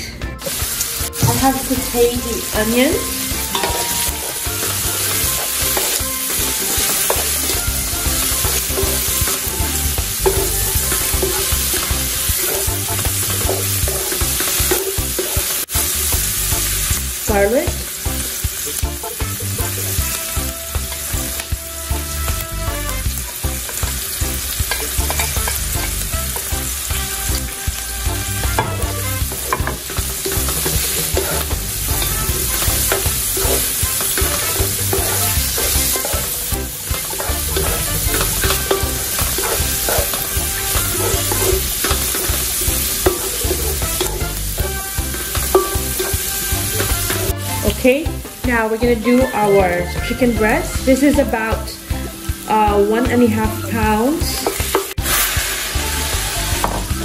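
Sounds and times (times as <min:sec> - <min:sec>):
onions sizzling in oil: 0:00.0 - 0:57.0
spatula scraping and tapping pan: 0:00.0 - 0:57.0.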